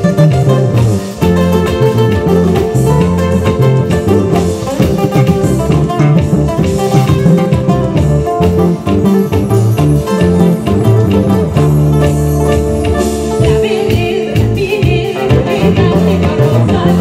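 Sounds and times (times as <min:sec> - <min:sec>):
bass guitar: 0:00.0 - 0:17.0
drum kit: 0:00.0 - 0:17.0
plucked acoustic guitar: 0:00.0 - 0:17.0.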